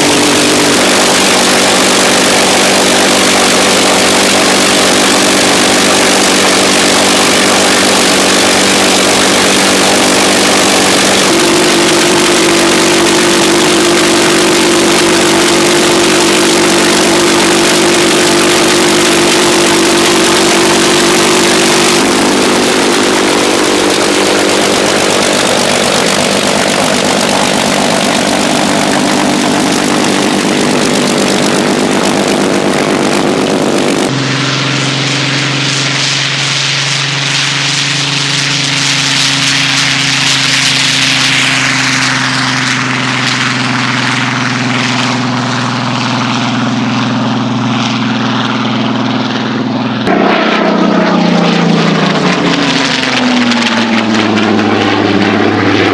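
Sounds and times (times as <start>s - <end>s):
propeller aircraft engine running: 0.0s - 55.9s.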